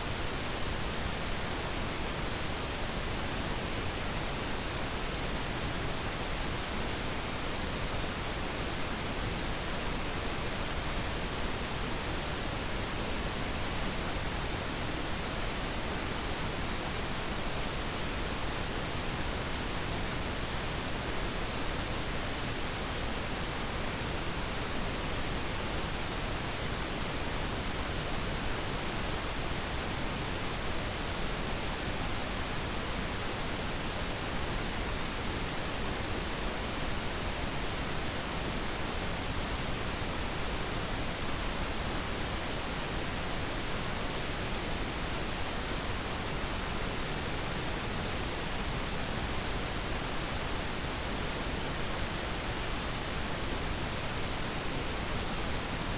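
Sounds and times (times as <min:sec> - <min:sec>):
steady pink noise hiss: 0:00.0 - 0:55.9.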